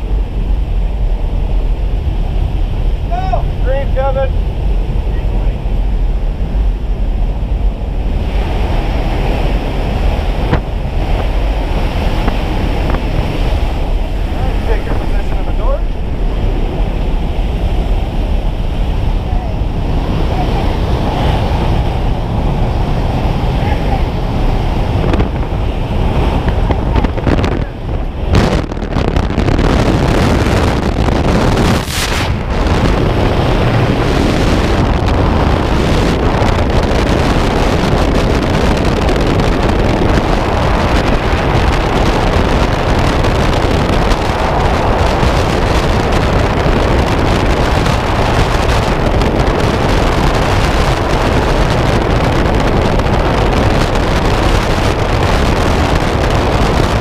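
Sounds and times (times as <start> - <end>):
airplane engine: 0.0 - 57.0
wind buffeting microphone: 0.0 - 57.0.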